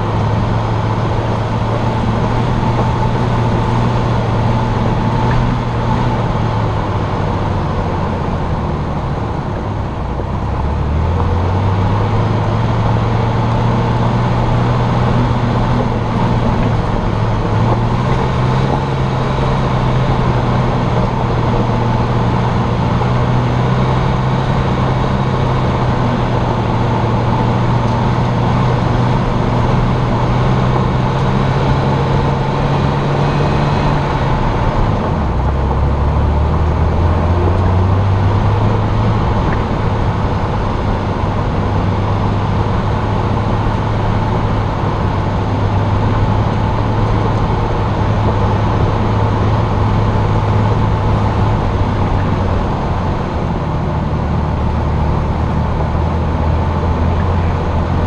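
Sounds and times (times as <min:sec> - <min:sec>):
car engine running: 0:00.0 - 0:58.0
tyre and road noise: 0:00.0 - 0:58.0.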